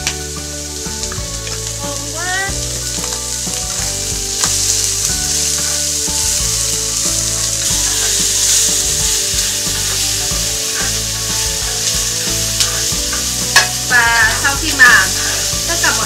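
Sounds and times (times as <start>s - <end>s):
chopsticks stirring in pan: 0.0s - 16.0s
food sizzling in oil: 0.0s - 16.0s.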